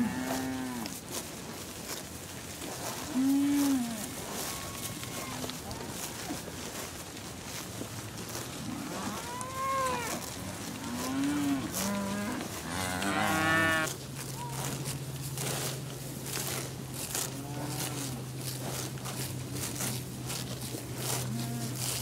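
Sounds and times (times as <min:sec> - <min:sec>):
cows mooing: 0:00.0 - 0:01.0, 0:02.9 - 0:06.0, 0:08.3 - 0:22.0.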